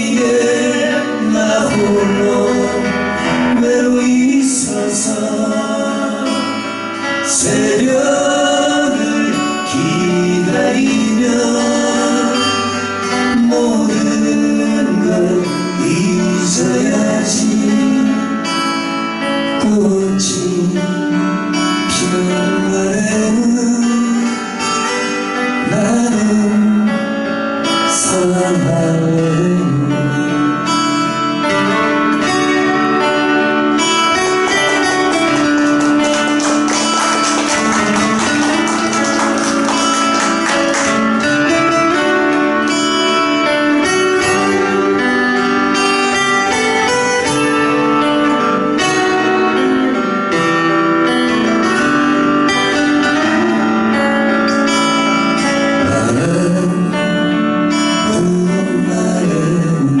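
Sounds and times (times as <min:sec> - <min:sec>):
backing band playing: 0:00.0 - 0:27.0, 0:31.2 - 0:59.2
guitar playing: 0:00.0 - 1:00.0.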